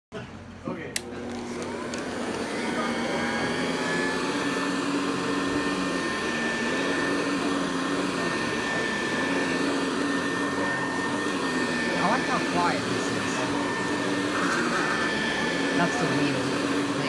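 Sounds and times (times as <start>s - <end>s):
upright vacuum cleaner running: 0.7s - 17.0s.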